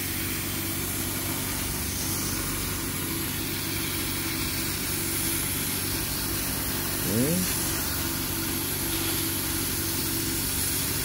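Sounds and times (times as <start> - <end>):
laser cutter hum and hiss: 0.0 - 11.0.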